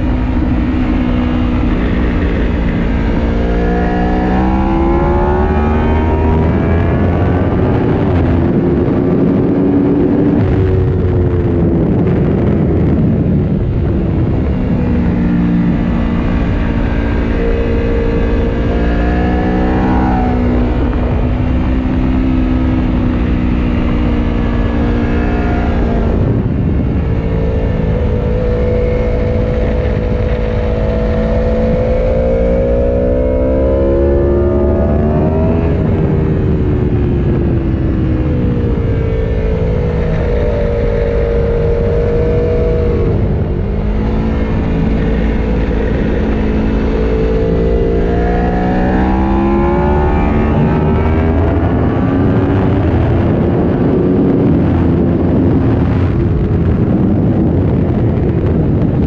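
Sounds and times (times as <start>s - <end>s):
motorcycle engine revving: 0.0s - 59.0s
wind rumble: 0.0s - 59.0s.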